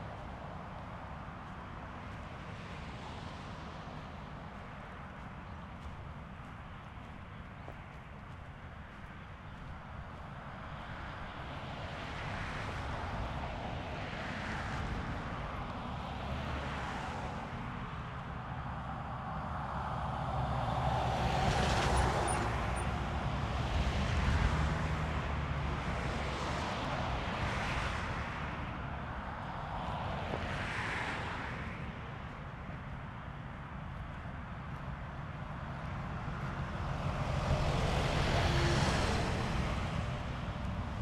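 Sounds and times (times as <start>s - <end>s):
passing road traffic: 0.0s - 41.0s
wind: 0.0s - 41.0s.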